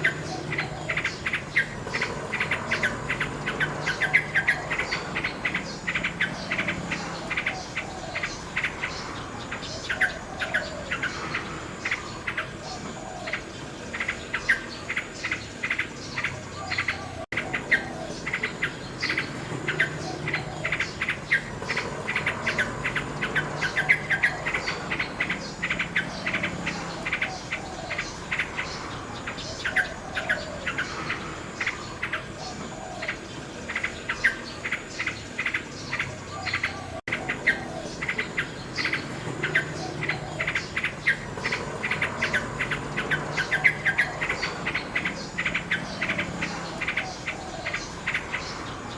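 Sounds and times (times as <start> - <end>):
nightingale singing: 0.0 - 48.9
rapid insect chirps: 0.0 - 48.9.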